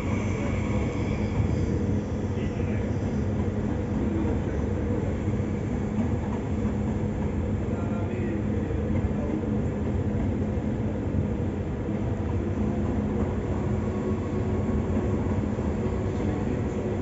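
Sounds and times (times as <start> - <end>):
electric train rolling slowly: 0.0 - 17.0.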